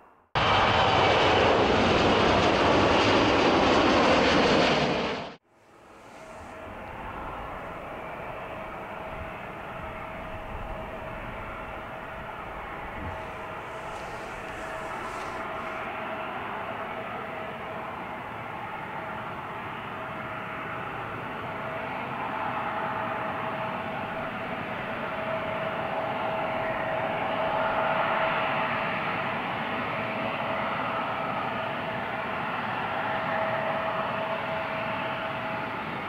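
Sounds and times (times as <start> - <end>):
jet engines whining: 0.4 - 31.0.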